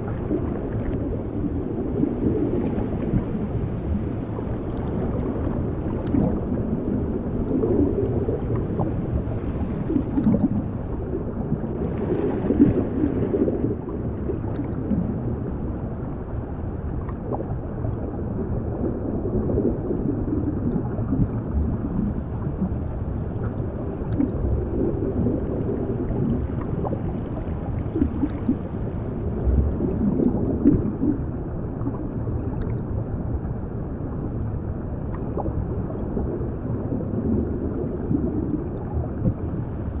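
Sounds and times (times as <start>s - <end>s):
underwater bubbling and gurgling: 0.0s - 40.0s.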